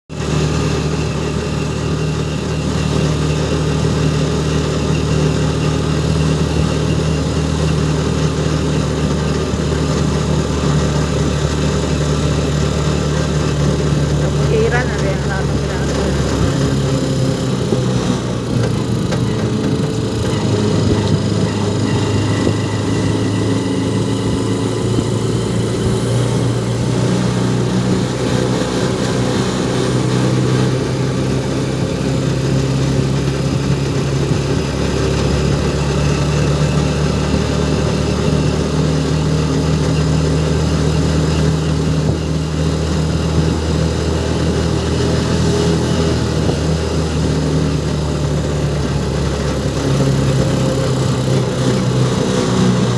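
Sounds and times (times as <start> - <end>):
engine running steadily: 0.1 - 52.9.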